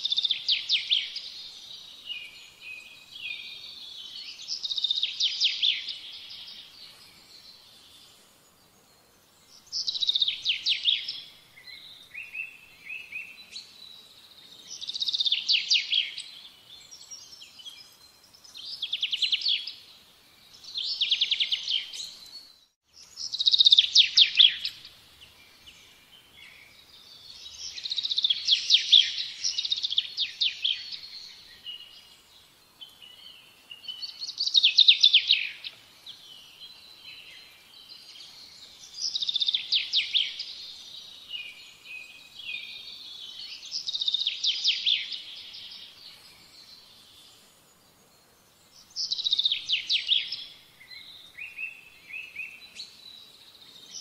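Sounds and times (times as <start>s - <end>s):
songbird singing trills: 0.0s - 54.0s.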